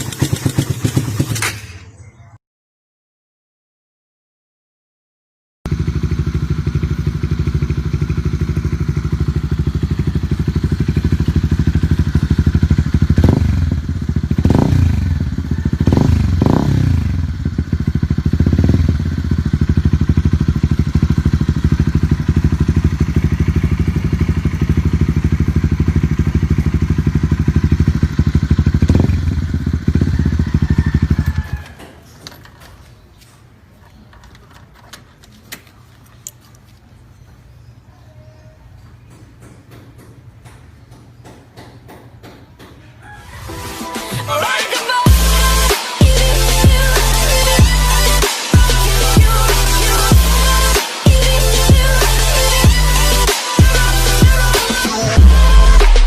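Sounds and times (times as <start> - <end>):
motorcycle engine idling and revving: 0.0 - 2.0, 5.7 - 37.7, 45.0 - 56.0.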